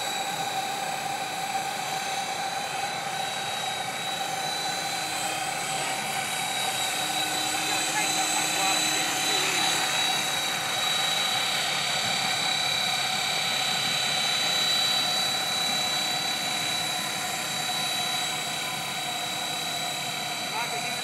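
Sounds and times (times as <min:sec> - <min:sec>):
model helicopter rotor whine: 0:00.0 - 0:21.0.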